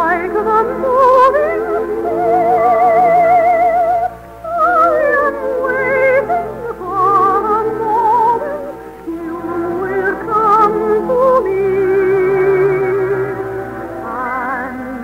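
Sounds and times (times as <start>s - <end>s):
operetta singing with vibrato: 0.0s - 15.0s
sustained accompaniment chords: 0.0s - 15.0s.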